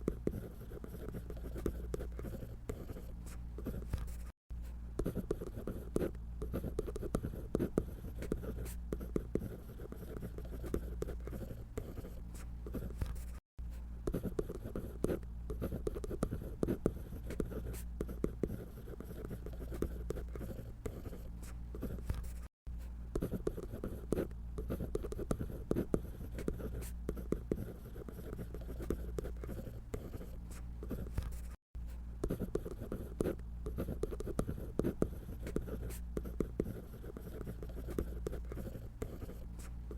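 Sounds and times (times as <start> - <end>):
pencil scratching on paper: 0.0 - 13.4, 14.0 - 22.5, 23.1 - 31.6, 32.2 - 39.9
steady low hum: 0.0 - 39.9.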